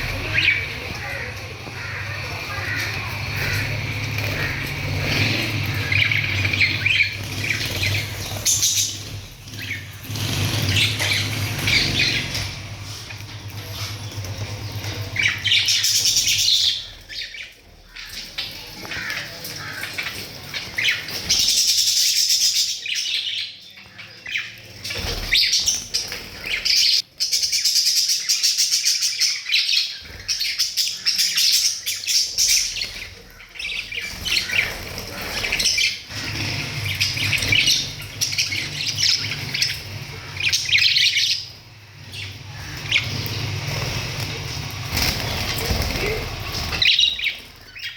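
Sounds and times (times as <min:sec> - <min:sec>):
parrots chirping and squawking: 0:00.0 - 0:47.9.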